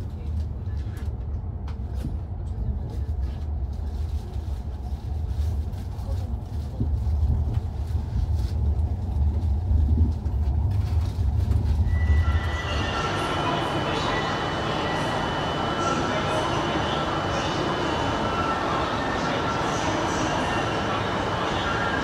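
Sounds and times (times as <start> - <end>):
train low rumble: 0.0 - 22.0.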